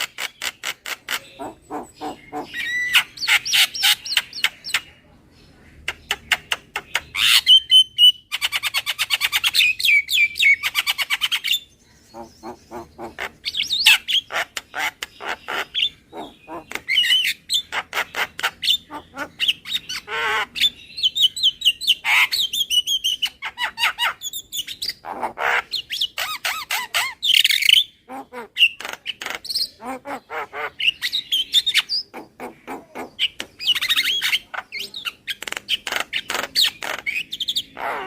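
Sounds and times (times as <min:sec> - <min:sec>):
myna chattering and whistling: 0:00.0 - 0:38.0.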